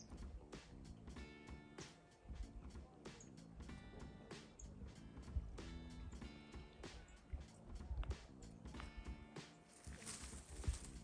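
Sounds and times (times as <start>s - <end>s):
music with held notes and percussion: 0.0s - 11.0s.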